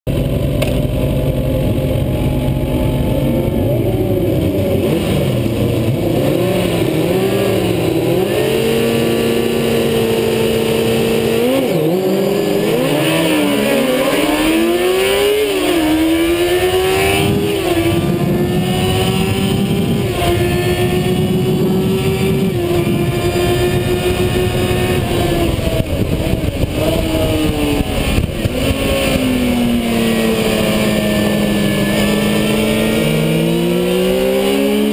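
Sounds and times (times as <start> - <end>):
racing motorcycle engine revving: 0.1 - 34.9.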